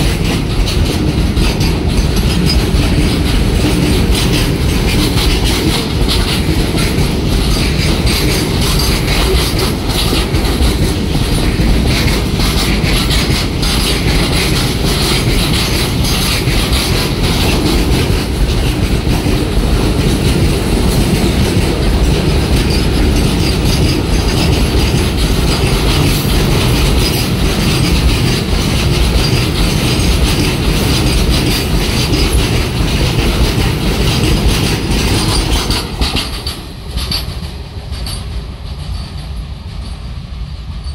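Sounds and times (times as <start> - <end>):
train wheels rolling rumble: 0.0 - 40.9
wheels clicking over rail joints: 0.0 - 40.9.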